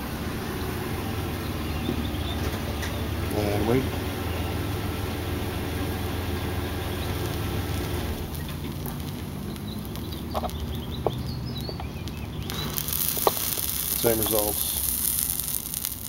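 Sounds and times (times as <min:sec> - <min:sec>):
high hiss: 0:00.0 - 0:16.0
steady low hum: 0:00.0 - 0:16.0.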